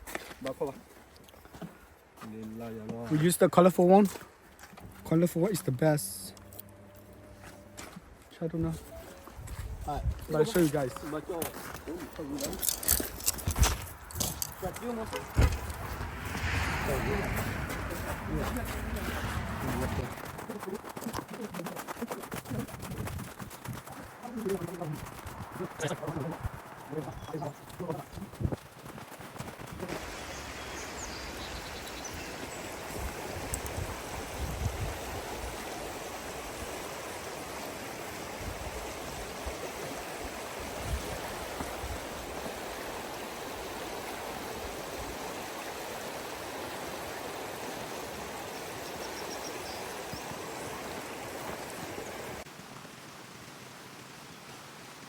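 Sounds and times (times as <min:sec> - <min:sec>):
creek water running: 0:00.0 - 0:55.0.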